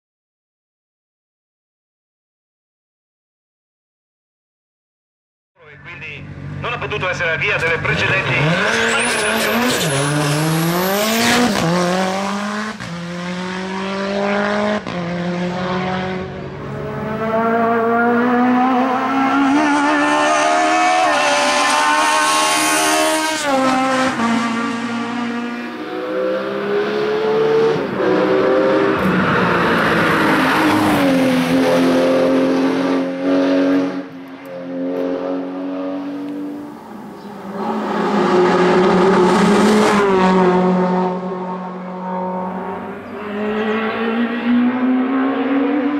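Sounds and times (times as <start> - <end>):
racing car engines at full throttle: 5.7 - 45.9.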